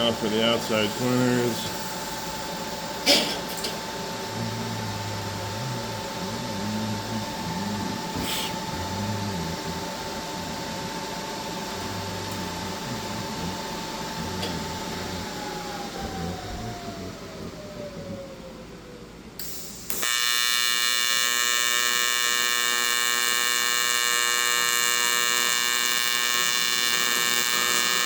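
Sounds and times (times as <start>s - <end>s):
welding arc humming and hissing: 0.0s - 16.6s, 19.4s - 28.0s.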